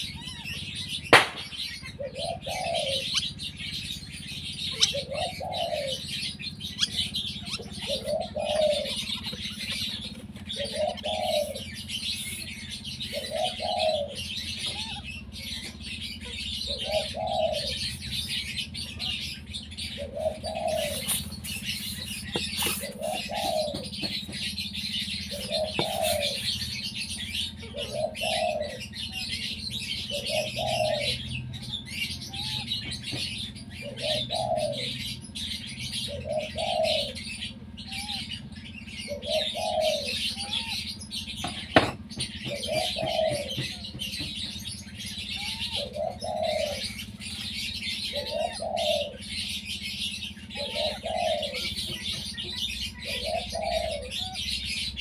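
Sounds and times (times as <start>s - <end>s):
high-pitched bird chatter: 0.0s - 55.0s.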